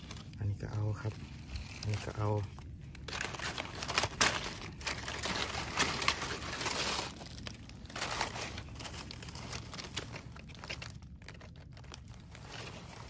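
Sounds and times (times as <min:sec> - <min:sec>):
leaf litter rustling and crackling: 0:00.0 - 0:13.0.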